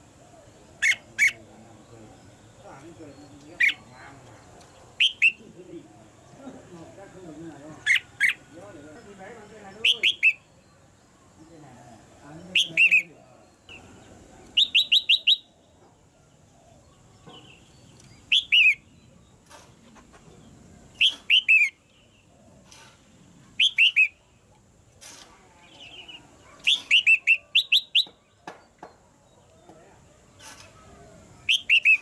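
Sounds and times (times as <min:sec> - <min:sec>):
bird chirping: 0:00.0 - 0:32.0.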